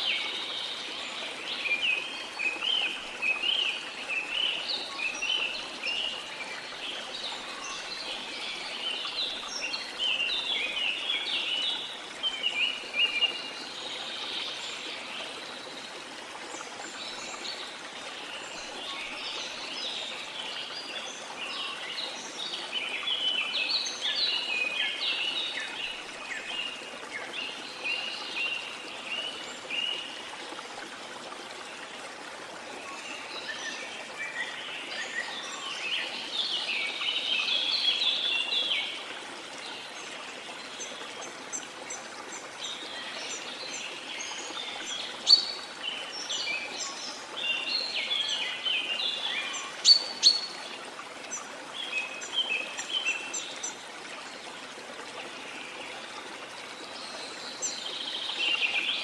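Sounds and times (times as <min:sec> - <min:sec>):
small birds chirping and twittering: 0:00.0 - 0:30.6, 0:31.2 - 0:54.6, 0:55.2 - 0:59.0.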